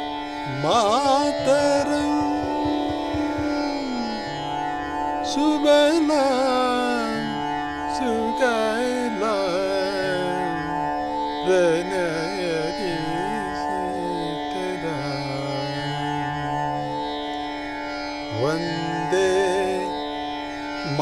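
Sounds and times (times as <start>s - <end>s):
man singing ornamented melody: 0.0s - 4.6s, 5.2s - 17.4s, 18.3s - 20.1s, 20.8s - 21.0s.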